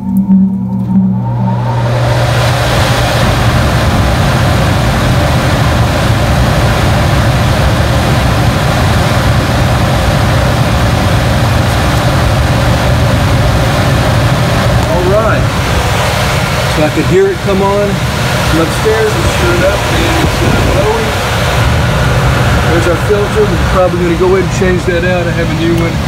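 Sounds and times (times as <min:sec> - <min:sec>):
furnace blower fan rushing: 0:00.0 - 0:26.0.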